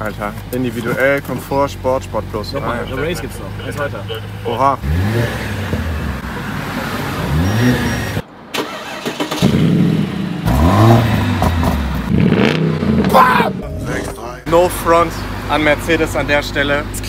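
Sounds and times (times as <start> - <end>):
car engine revving: 1.4 - 16.5.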